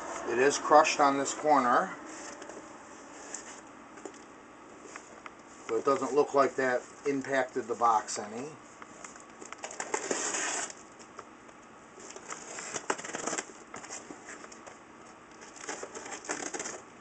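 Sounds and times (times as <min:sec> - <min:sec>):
cardboard and tape crackling: 0:00.2 - 0:17.0.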